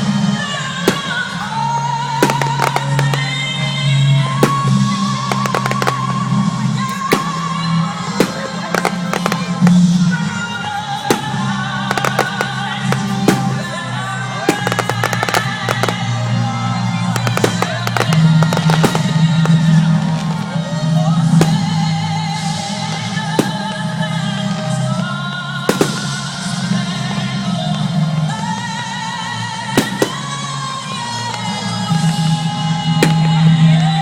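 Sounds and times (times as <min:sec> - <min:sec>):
fireworks bangs and crackles: 0:00.0 - 0:34.0
loud music with singing: 0:00.0 - 0:34.0.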